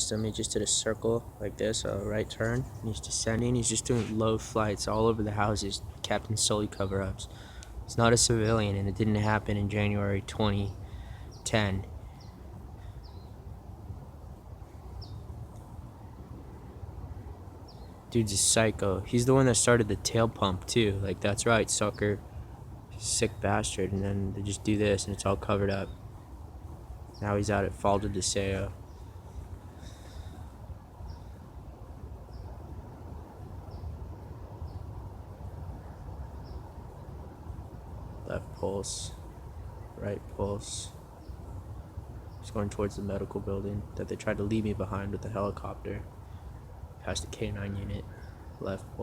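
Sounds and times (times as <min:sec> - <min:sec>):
distant light aircraft drone: 0:00.0 - 0:49.0.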